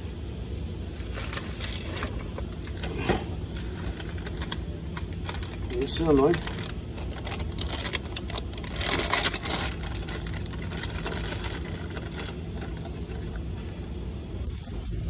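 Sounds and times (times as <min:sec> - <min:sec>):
steady low hum: 0:00.0 - 0:15.0
rustling and scraping of unpacking: 0:00.8 - 0:15.0.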